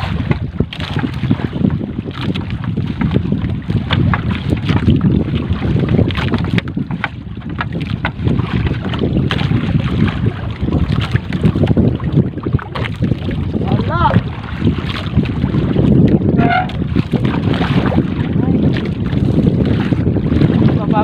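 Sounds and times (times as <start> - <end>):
water washing against hull: 0.0 - 21.0
wind buffeting microphone: 0.0 - 21.0.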